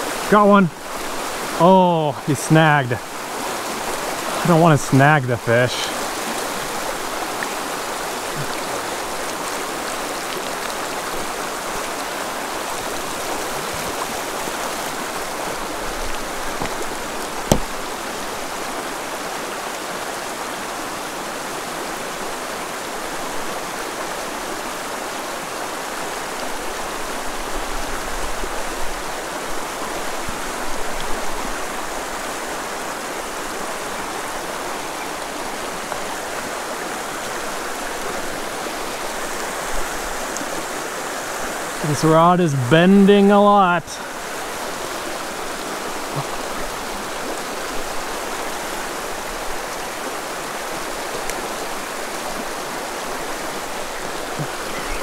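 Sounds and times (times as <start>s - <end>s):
creek rushing over rocks: 0.0s - 55.0s.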